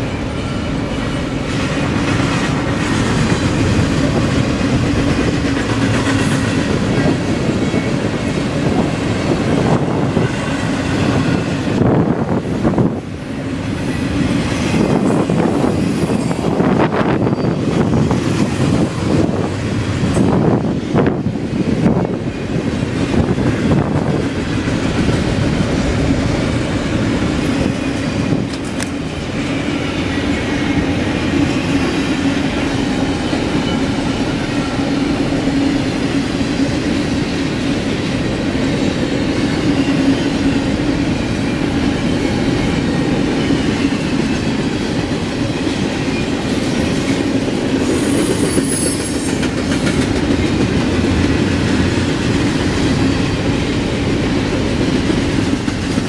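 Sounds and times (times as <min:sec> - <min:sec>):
freight train rolling on rails: 0:00.0 - 0:56.0.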